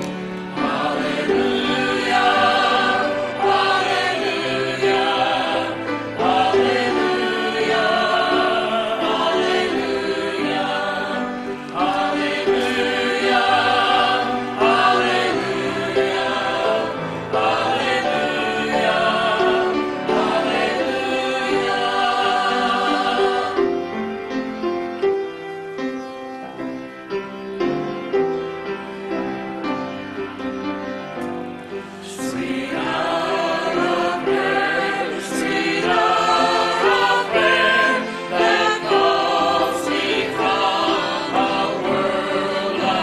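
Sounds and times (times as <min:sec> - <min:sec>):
church choir singing a hymn: 0:00.0 - 0:43.0.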